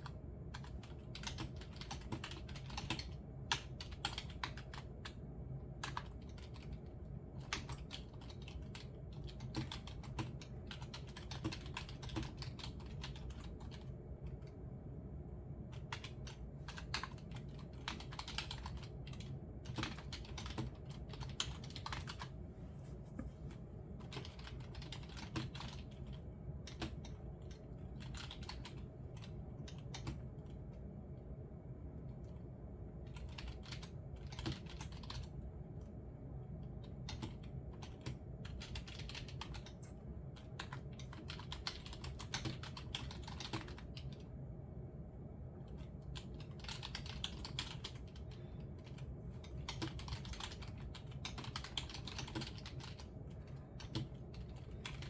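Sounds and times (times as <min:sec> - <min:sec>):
computer keyboard typing: 0:00.0 - 0:14.5, 0:15.6 - 0:22.3, 0:24.0 - 0:30.8, 0:33.0 - 0:35.5, 0:36.6 - 0:44.3, 0:45.6 - 0:55.0
low background hum: 0:00.0 - 0:55.0.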